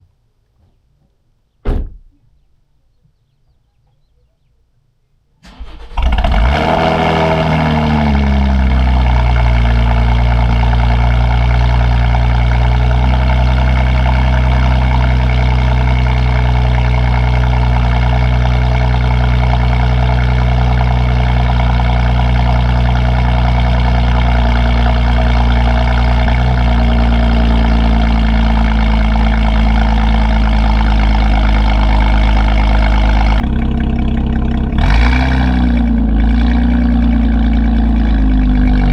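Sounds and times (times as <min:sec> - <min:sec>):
car engine starting and idling: 0:05.4 - 0:38.9.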